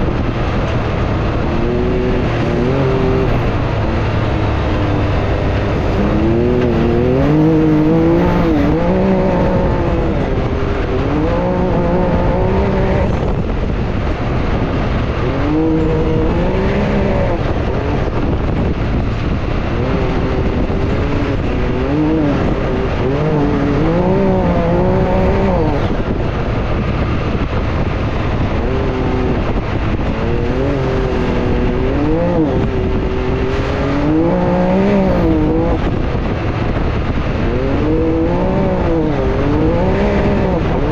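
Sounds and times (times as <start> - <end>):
engine revving: 0.0 - 40.9
wind and dirt rush: 0.0 - 40.9.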